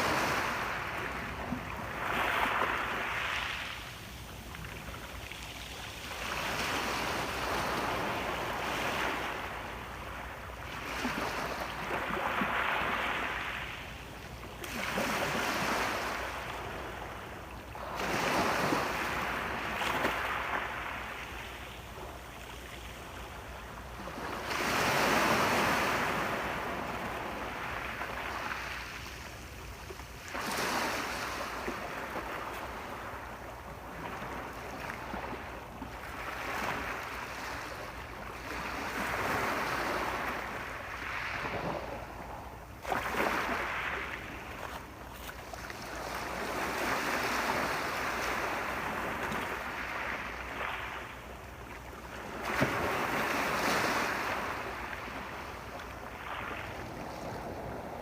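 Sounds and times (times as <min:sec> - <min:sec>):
ocean waves breaking: 0:00.0 - 0:05.4, 0:06.0 - 0:58.0.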